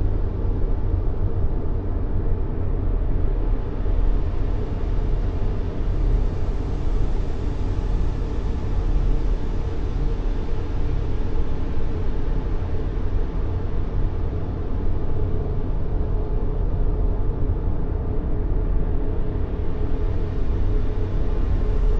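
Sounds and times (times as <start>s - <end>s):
deep rumbling white noise: 0.0s - 21.9s.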